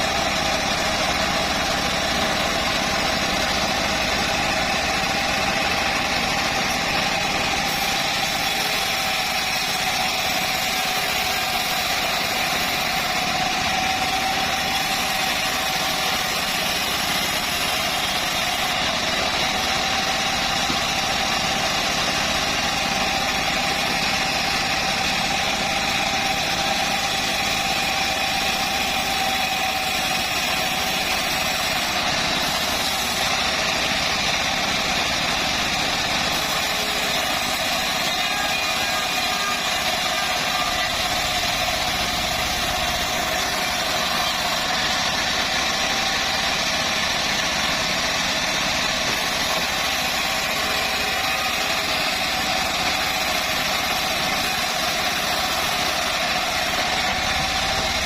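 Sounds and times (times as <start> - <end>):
bandsaw mill whining: 0.0 - 58.0.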